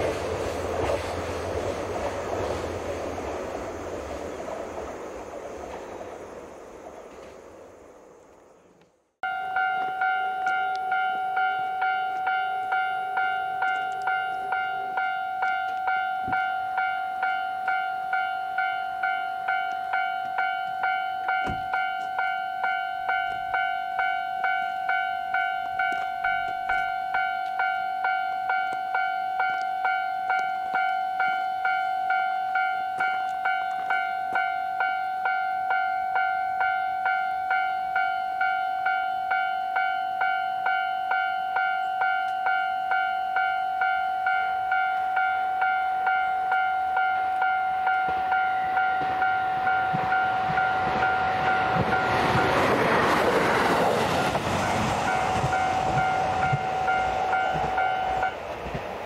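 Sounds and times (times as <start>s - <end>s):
level-crossing alarm bell: 9.2s - 52.7s, 54.5s - 58.4s.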